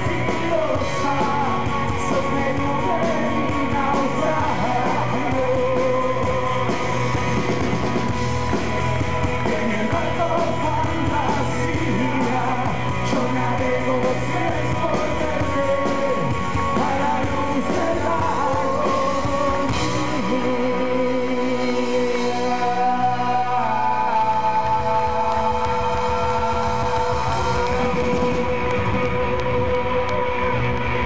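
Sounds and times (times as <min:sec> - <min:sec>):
person singing: 0:00.0 - 0:07.4, 0:09.1 - 0:31.0
drums: 0:00.0 - 0:31.0
electric guitars: 0:00.0 - 0:31.0.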